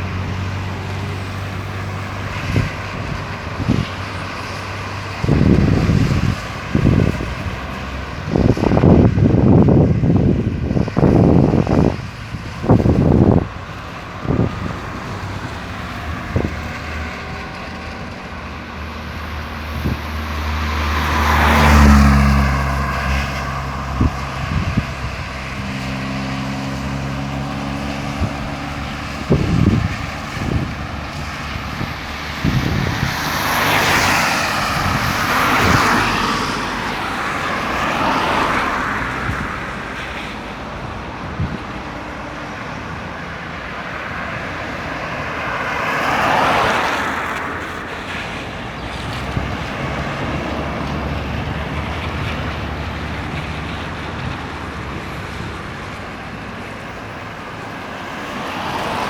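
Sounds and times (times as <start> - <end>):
cars passing: 0.0 - 59.0
heavy vehicle engine passing: 0.0 - 59.0.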